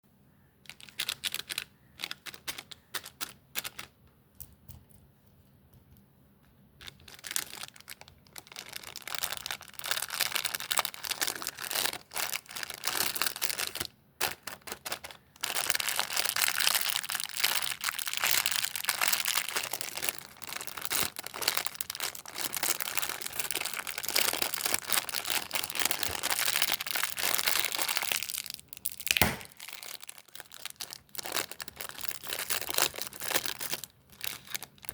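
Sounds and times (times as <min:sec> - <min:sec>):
candy wrappers crinkling: 0:00.7 - 0:05.0, 0:06.8 - 0:34.9.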